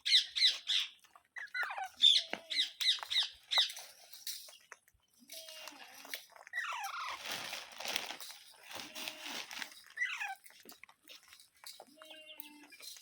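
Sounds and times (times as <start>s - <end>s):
rustling crunching noise: 0.9s - 13.0s.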